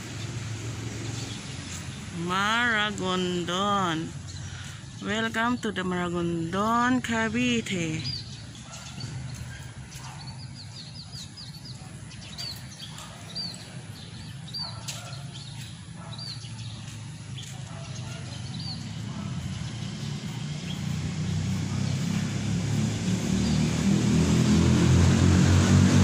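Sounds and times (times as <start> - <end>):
bird chirping: 0.0 - 23.8.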